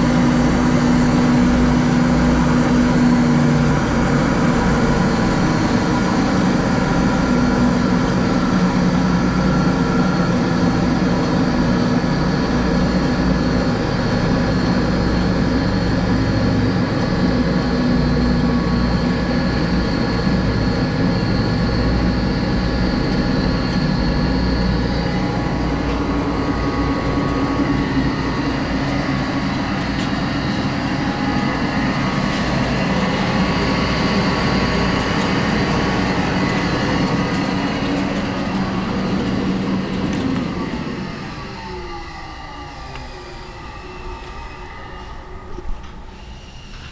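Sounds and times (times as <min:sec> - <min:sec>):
bandsaw machine hum: 0:00.0 - 0:46.8.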